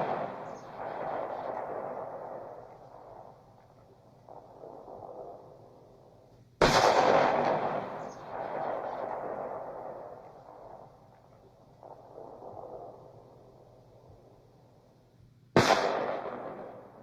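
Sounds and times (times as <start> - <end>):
pistol shot with rolling echo: 0.0 - 13.9, 15.5 - 17.0.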